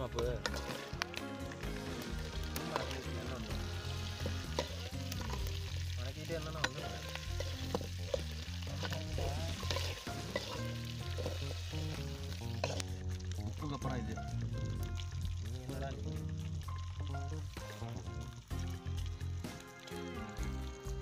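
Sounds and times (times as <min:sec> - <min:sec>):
pork sizzling in a pan: 0:00.0 - 0:21.0.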